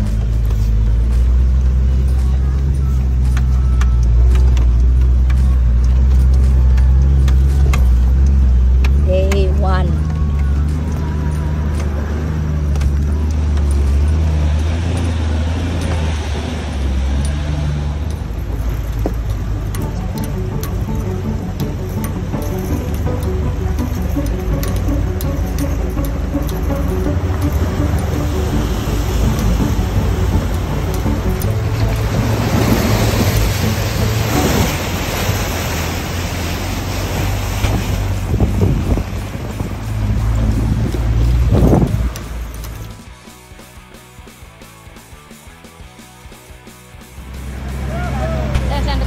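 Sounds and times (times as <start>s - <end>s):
engine and drivetrain drone: 0.0s - 49.0s
water rushing and splashing: 0.0s - 49.0s.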